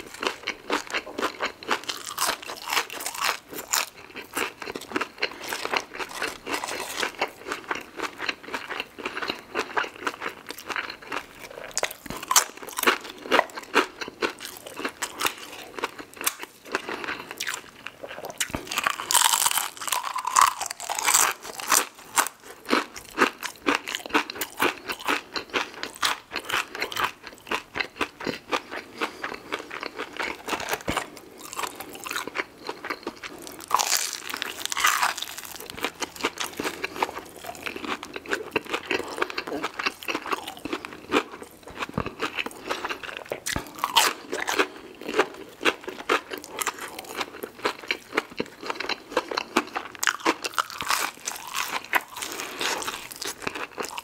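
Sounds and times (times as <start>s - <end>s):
crunching and chewing fried food: 0.0s - 54.0s.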